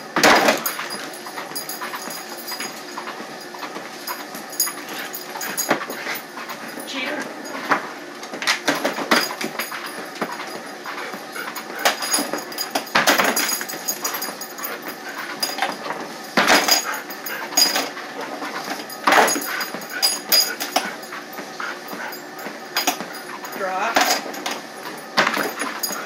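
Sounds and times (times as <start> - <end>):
treadmill high whine: 0.0 - 26.0.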